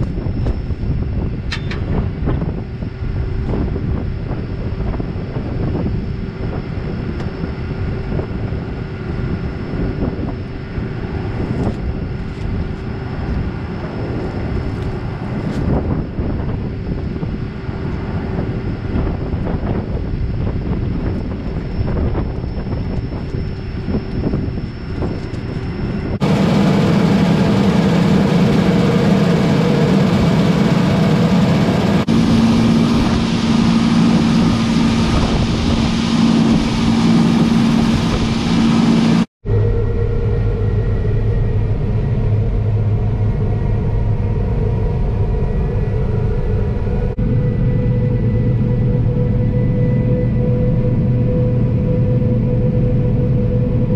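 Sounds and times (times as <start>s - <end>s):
combine harvester running: 0.0s - 53.9s
strong steady low hum: 0.0s - 53.9s.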